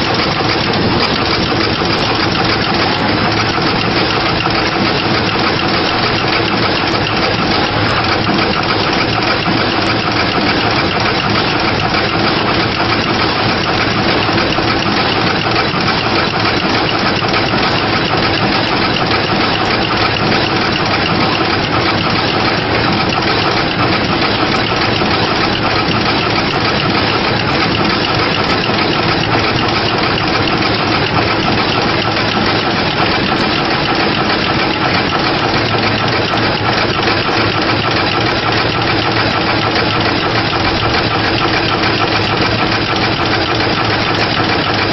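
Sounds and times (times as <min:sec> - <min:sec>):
machine mechanical noise: 0:00.0 - 0:44.9.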